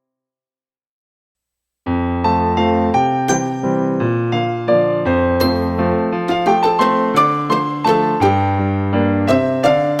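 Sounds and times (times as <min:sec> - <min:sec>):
piano melody over bass notes: 0:01.9 - 0:10.0.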